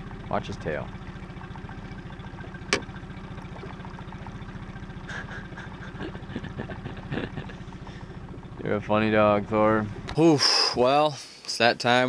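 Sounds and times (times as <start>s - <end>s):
outboard motor idling: 0.0s - 11.1s.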